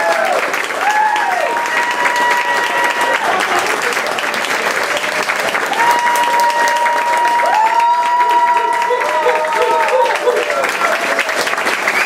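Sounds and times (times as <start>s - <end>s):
crowd applauding: 0.0s - 12.0s
high-pitched cheers: 0.0s - 12.0s.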